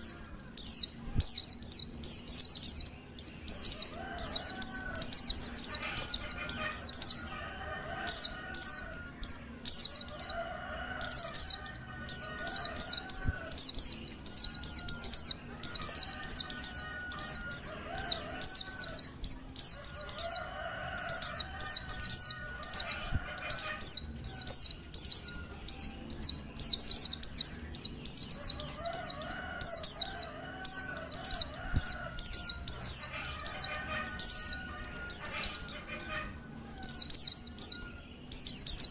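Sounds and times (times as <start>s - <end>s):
faint low bird warbling: 0.0s - 38.9s.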